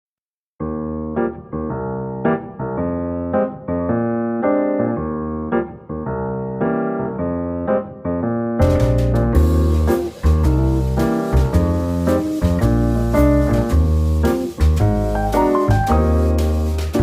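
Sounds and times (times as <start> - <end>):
piano chords: 0.6 - 17.0.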